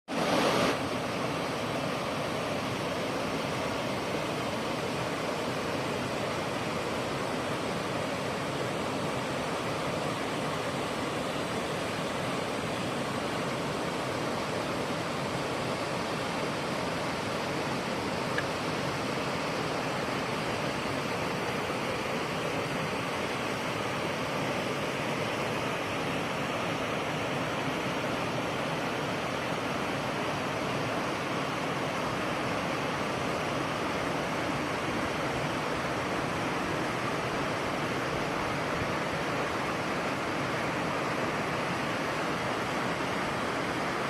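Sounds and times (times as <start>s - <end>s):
waterfall roaring: 0.1s - 44.0s.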